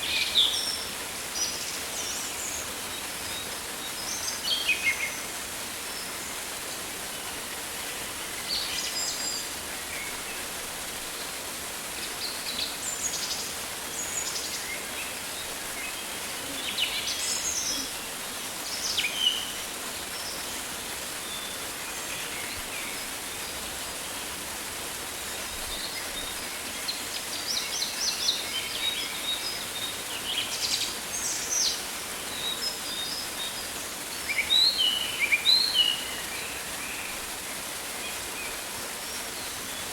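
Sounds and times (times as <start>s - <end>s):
hiss of rain: 0.0s - 39.9s.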